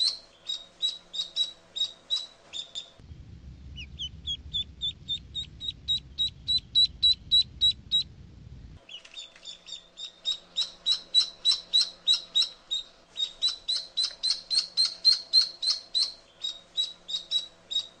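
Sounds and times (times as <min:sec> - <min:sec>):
duckling peeping: 0:00.0 - 0:03.0, 0:03.8 - 0:08.1, 0:08.8 - 0:18.0.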